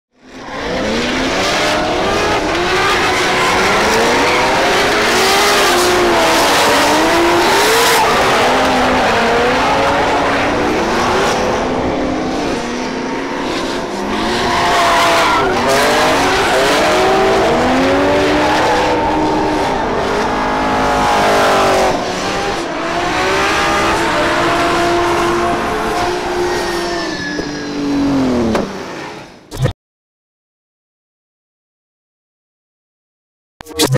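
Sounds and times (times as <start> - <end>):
car engines revving: 0.2 - 29.4.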